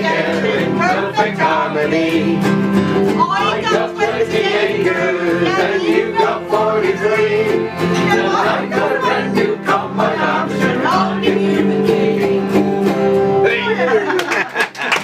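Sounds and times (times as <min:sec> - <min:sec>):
group singing: 0:00.0 - 0:13.1
strummed ukulele: 0:00.0 - 0:14.1.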